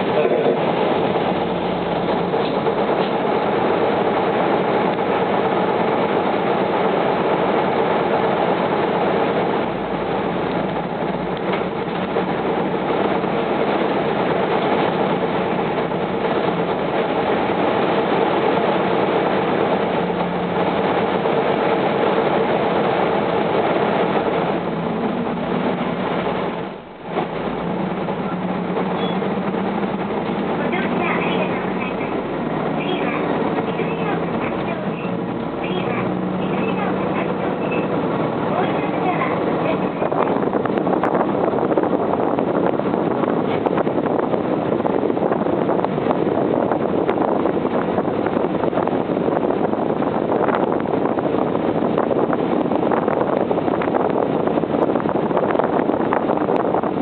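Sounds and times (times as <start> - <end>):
diesel bus engine: 0.0 - 57.0
road rumble: 0.0 - 57.0.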